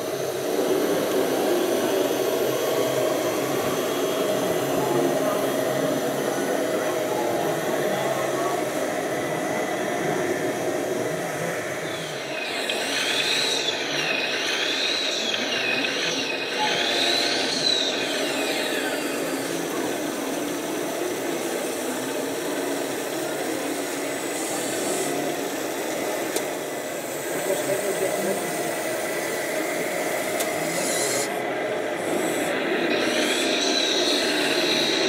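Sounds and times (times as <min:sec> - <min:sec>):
hum of a busy hall: 0:00.0 - 0:35.0
small electric motor whining: 0:00.0 - 0:35.0.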